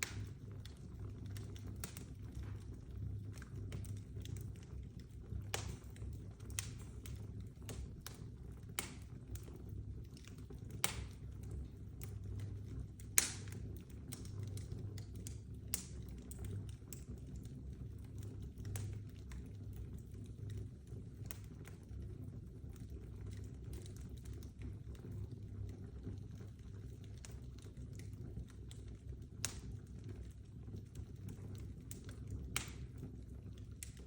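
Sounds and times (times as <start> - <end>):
low steady rumble: 0.0 - 34.0
open fire crackling and popping: 0.0 - 34.0.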